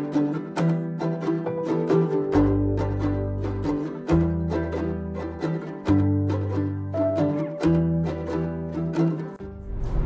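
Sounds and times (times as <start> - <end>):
plucked-string melody: 0.0 - 10.0.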